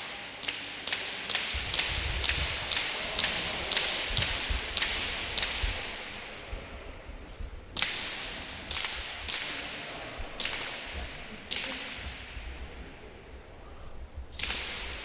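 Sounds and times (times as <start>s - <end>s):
ball cracks with ringing echo: 0.2s - 6.5s, 7.8s - 12.9s, 14.3s - 15.0s.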